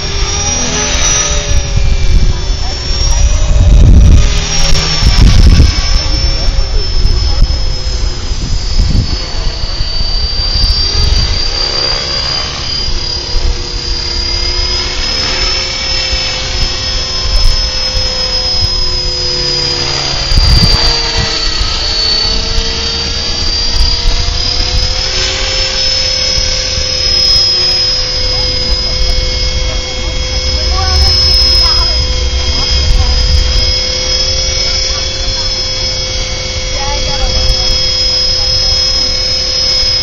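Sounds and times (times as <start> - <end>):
low rumble: 0.0 - 40.0
model helicopter whine: 0.0 - 40.0.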